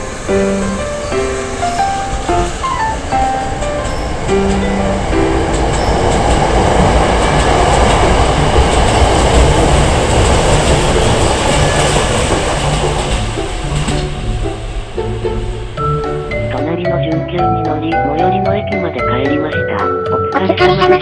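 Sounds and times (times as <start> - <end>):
electric train running on rails: 0.0 - 21.0.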